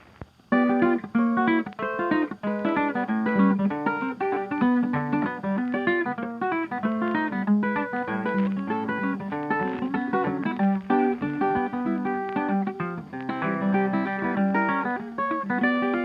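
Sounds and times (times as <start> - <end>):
plucked guitar music: 0.5 - 16.0.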